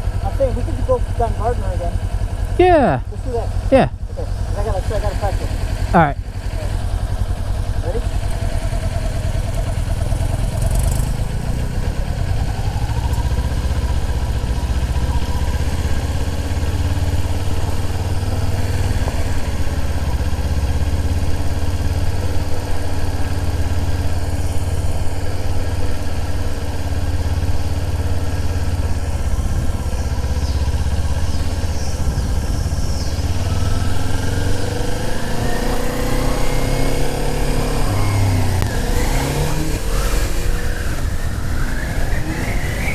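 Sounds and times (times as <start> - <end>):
engine accelerating: 0.0 - 42.9
motorcycle engine rumbling: 0.0 - 42.9.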